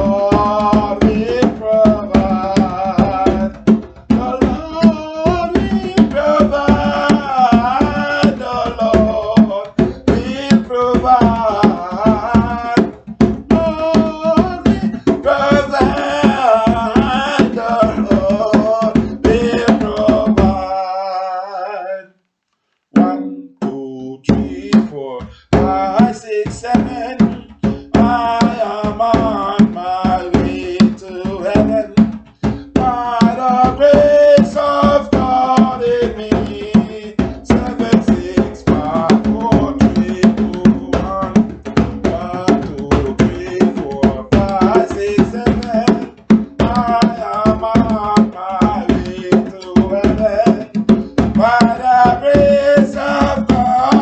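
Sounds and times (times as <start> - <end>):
steady drum beat: 0.0 - 20.8, 22.9 - 54.0
man singing gospel song: 0.0 - 22.2, 22.9 - 54.0.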